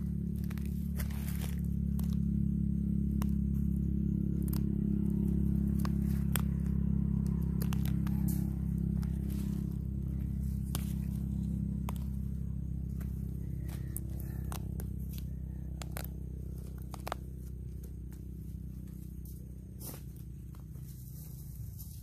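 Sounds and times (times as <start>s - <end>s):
dry leaves crackling: 0.0s - 22.0s
steady low hum: 0.0s - 22.0s.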